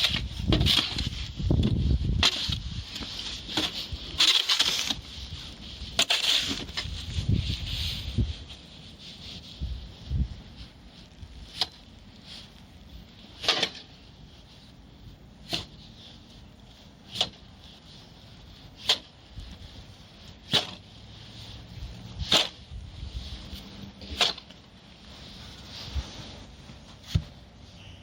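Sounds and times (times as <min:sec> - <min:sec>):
shovel scraping snow: 0:00.0 - 0:28.0.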